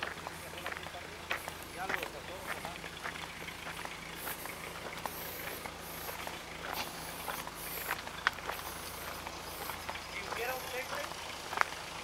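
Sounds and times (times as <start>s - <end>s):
footsteps crunching on wood chips: 0.0s - 11.9s
steady low hum: 0.1s - 10.8s.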